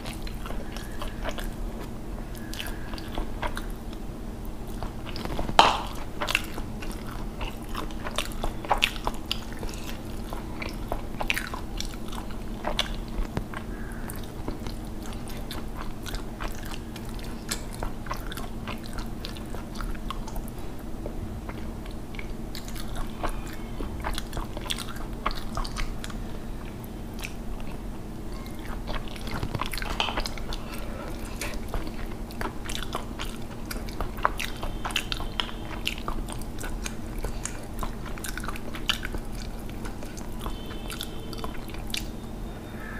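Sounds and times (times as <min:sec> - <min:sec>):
person chewing: 0:00.0 - 0:42.2
steady low hum: 0:00.0 - 0:42.9.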